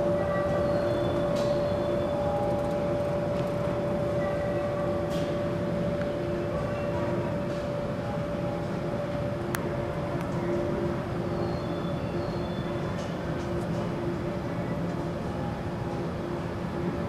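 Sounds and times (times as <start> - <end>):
electrical hum tones: 0.0 - 17.0
station platform hum and rumble: 0.0 - 17.0.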